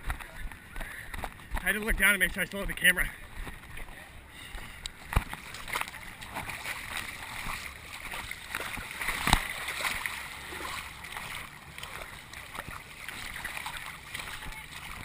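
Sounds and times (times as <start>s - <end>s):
muddy water splashing: 0.0s - 15.0s.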